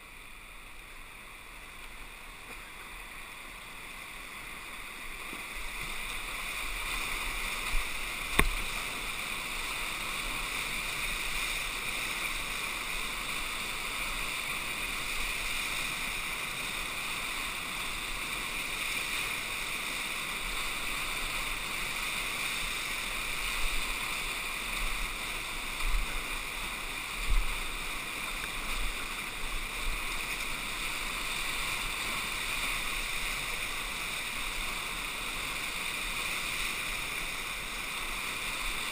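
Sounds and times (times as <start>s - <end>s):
whitewater rapids rushing: 0.0s - 38.9s.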